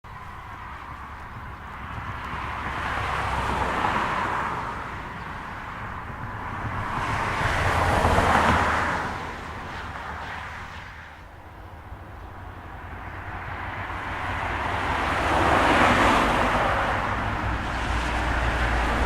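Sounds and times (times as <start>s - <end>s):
cars passing: 0.1s - 19.0s.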